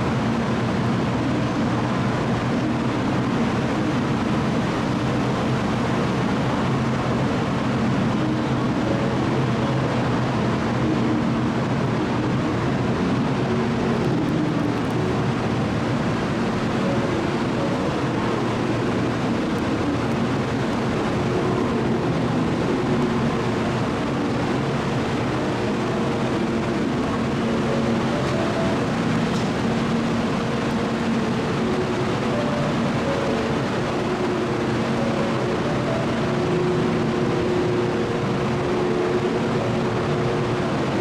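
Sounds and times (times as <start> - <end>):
train humming steadily: 0.0 - 41.0.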